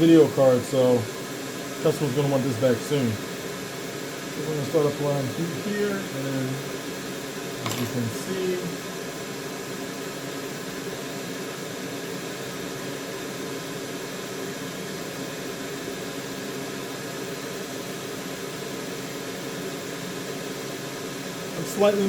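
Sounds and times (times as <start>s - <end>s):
faint fan hum: 0.0s - 22.0s
hot air blower hissing: 0.0s - 22.0s.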